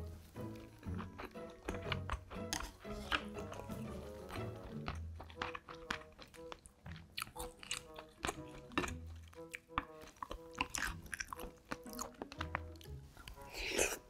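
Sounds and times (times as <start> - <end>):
person chewing: 0.0 - 14.0
soft background music: 0.0 - 14.0.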